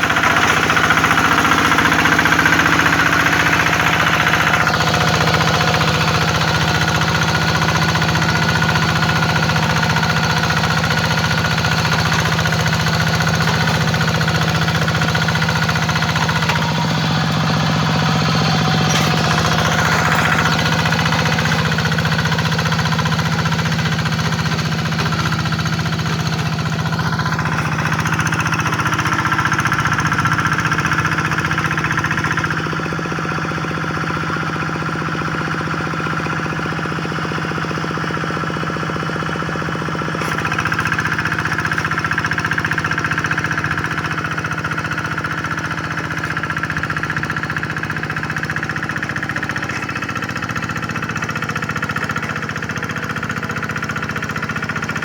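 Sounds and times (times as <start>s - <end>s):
diesel engine knocking steadily: 0.0s - 55.0s.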